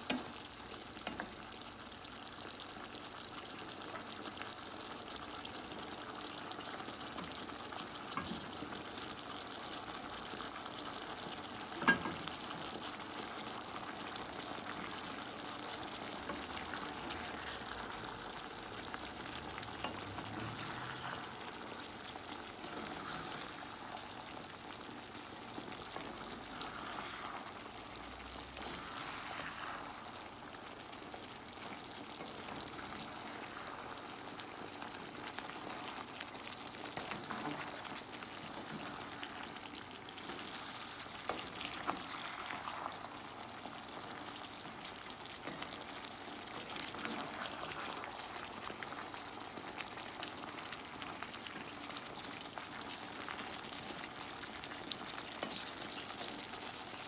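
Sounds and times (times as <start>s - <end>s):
vegetables and pork sizzling: 0.0s - 57.0s.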